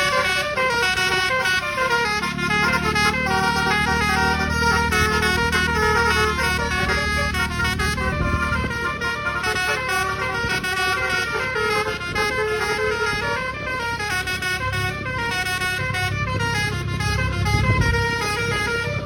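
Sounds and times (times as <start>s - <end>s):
bus engine rumbling: 0.0s - 19.0s
bus horn playing a quick tune: 0.0s - 19.0s.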